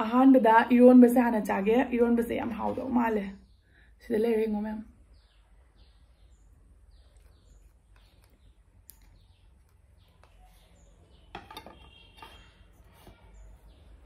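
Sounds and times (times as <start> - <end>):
faint bird chirps: 2.6 - 14.0.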